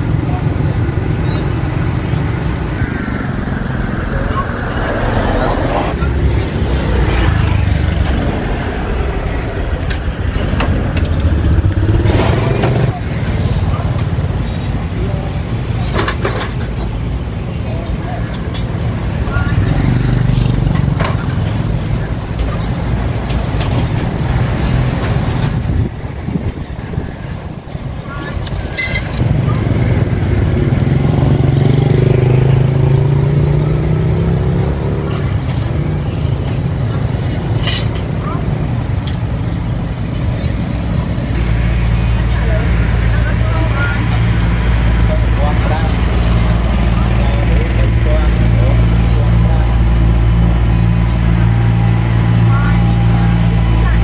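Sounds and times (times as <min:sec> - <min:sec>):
vehicle engine rumbling: 0:00.0 - 0:54.0.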